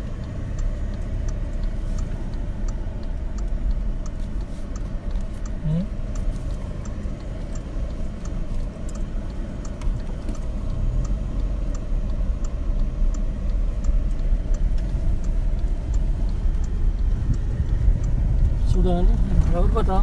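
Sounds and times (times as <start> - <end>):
car engine and tyres rumbling: 0.0 - 20.0
faint light ticks: 0.0 - 20.0.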